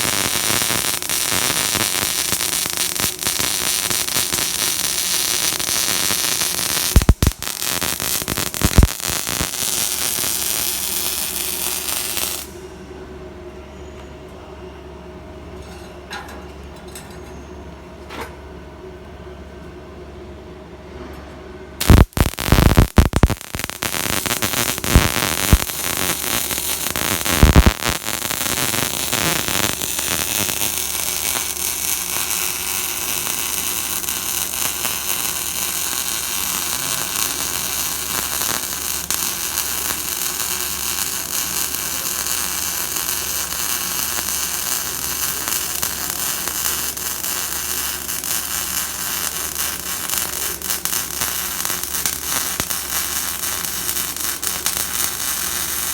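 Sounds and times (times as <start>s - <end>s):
electric arc welding hiss: 0.0s - 12.6s, 21.8s - 55.9s
welding arc pops: 0.0s - 12.6s, 21.8s - 55.9s.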